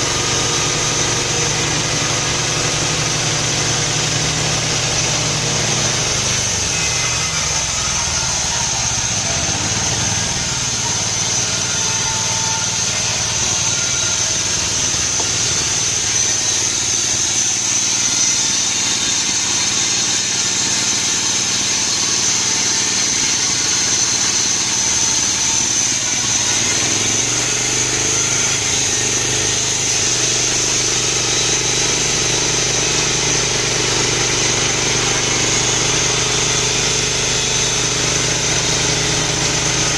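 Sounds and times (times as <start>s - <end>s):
sawmill petrol engine running: 0.0s - 39.9s.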